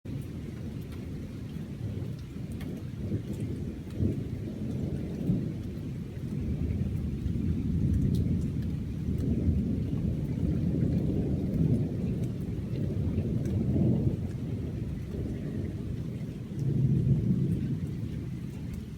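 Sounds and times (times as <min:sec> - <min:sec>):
faint rain ticks: 0:00.1 - 0:18.9
thunder rumbling: 0:00.3 - 0:18.9.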